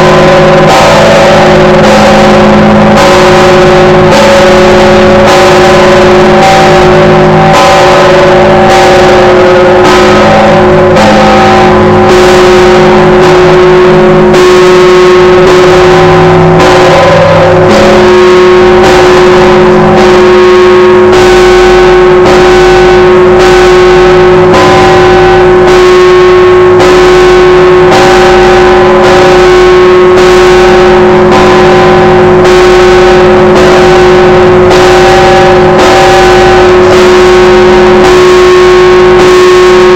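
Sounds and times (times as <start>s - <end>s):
church bells ringing: 0.0s - 39.9s
heavy bell ringing hum: 0.0s - 39.9s.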